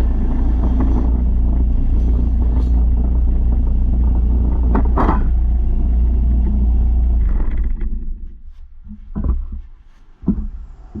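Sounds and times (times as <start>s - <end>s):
low machine rumble with hum: 0.0s - 11.0s.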